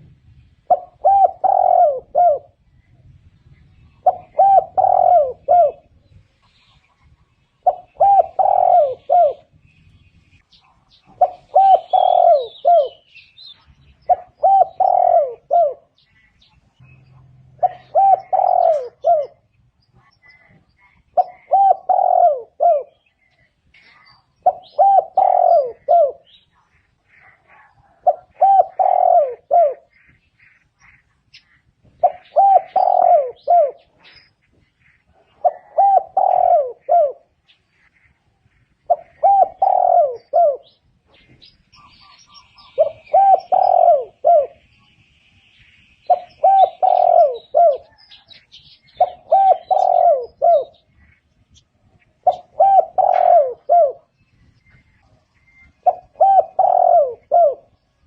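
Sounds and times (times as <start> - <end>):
dove cooing: 0.0 - 2.7, 3.8 - 9.6, 10.5 - 16.4, 17.1 - 31.0, 31.8 - 44.7, 46.0 - 51.2, 51.9 - 54.8, 55.4 - 58.0
faint high bird chirps: 2.6 - 58.0.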